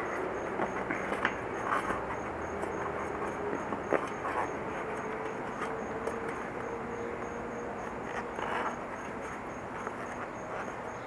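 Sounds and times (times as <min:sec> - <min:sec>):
tire rubbing on rim: 0:00.0 - 0:11.0.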